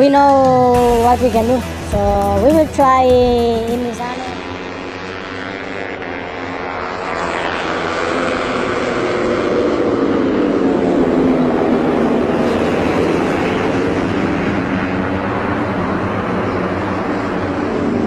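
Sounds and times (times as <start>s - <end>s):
racing motorcycle engine: 0.0s - 18.0s.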